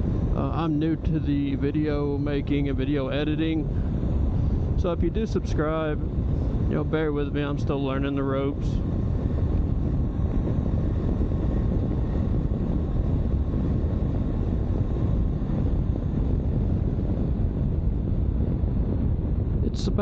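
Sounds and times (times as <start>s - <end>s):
road noise: 0.0s - 20.0s
wind rushing on microphone: 0.0s - 20.0s.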